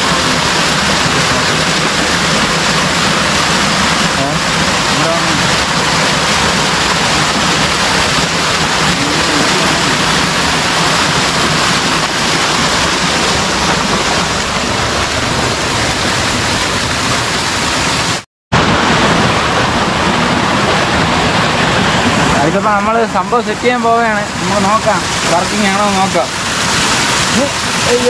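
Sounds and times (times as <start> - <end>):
stream running water: 0.0 - 28.0.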